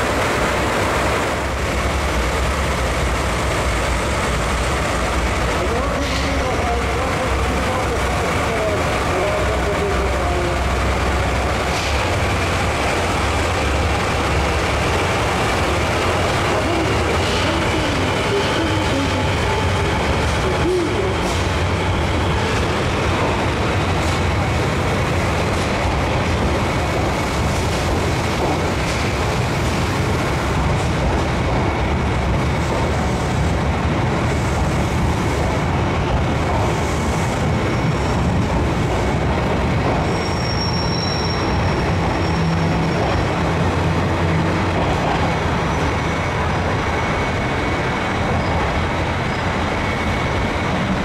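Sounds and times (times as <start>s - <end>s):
train machinery rumbling: 0.0s - 51.0s.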